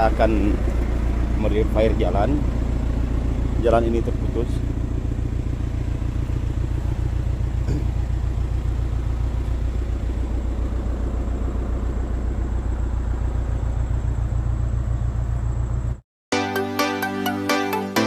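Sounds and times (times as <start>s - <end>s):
backhoe diesel engine pulsing: 0.0s - 16.0s.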